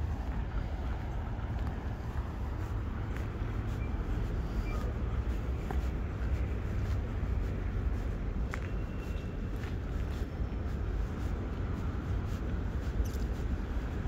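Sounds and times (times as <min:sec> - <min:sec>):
footsteps on paving stones: 0:00.0 - 0:14.0.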